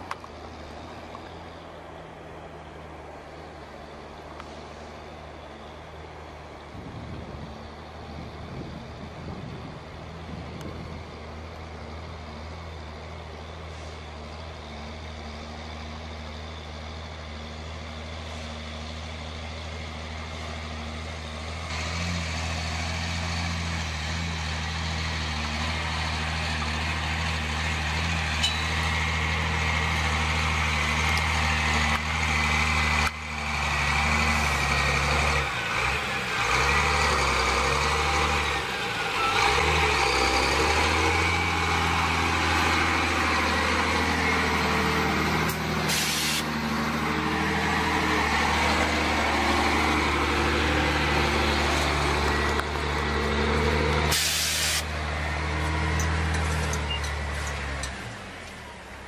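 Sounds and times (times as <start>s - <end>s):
truck diesel engine passing: 0.0s - 59.0s.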